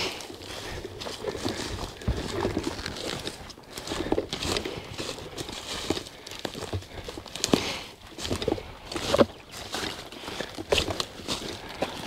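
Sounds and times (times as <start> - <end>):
brush and gear rustling: 0.0 - 12.0
footsteps on dirt: 0.0 - 12.0.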